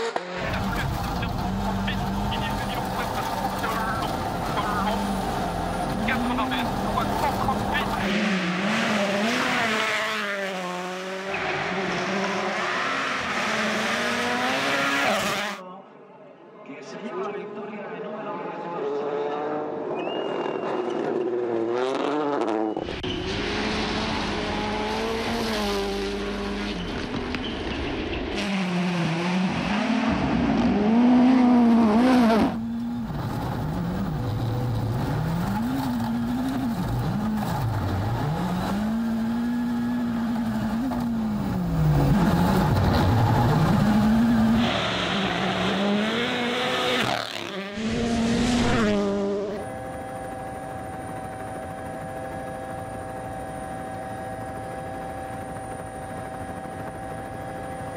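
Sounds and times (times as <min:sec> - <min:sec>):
rally car engines revving: 0:00.0 - 0:15.6, 0:18.8 - 0:51.7.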